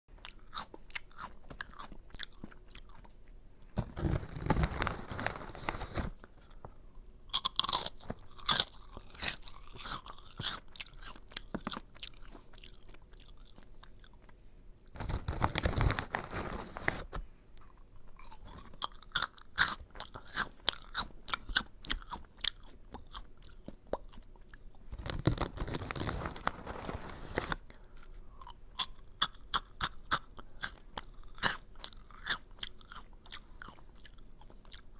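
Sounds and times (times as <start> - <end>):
crunchy chewing of snack: 0.1 - 34.9.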